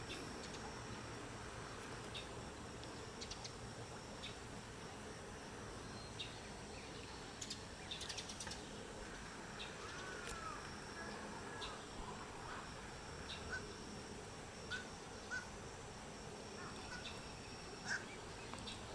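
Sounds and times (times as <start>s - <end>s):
high insect drone: 0.0s - 18.9s.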